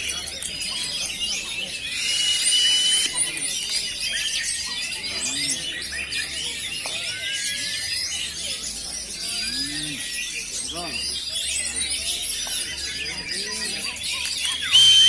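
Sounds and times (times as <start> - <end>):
magpie-robins singing: 0.0 - 15.0.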